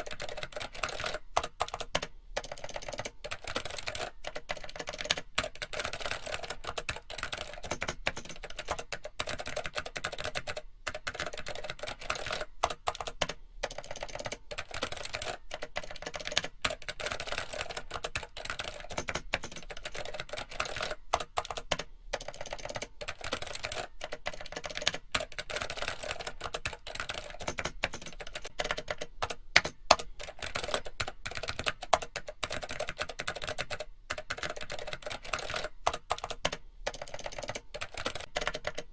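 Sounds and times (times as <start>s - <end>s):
fast typing on computer keyboard: 0.0s - 38.9s.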